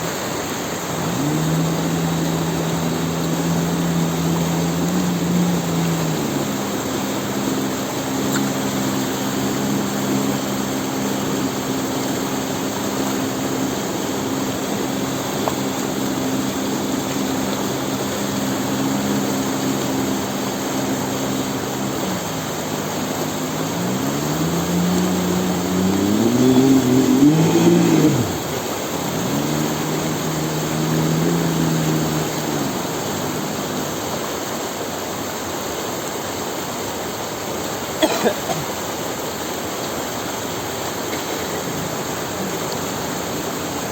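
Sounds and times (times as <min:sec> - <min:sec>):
outboard motor running: 0:00.0 - 0:43.9
rushing water: 0:00.0 - 0:43.9
wind: 0:00.0 - 0:43.9.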